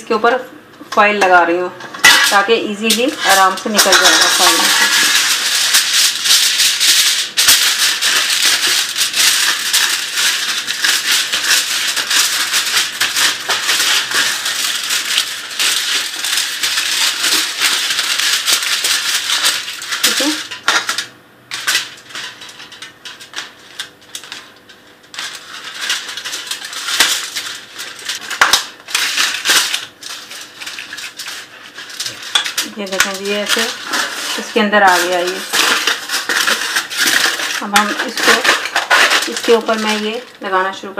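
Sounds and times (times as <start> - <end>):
aluminium foil crinkling: 2.0 - 40.9.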